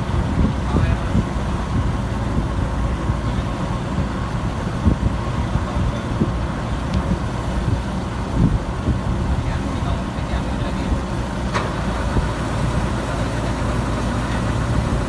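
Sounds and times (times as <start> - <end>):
harvester engine rumbling: 0.0 - 15.0.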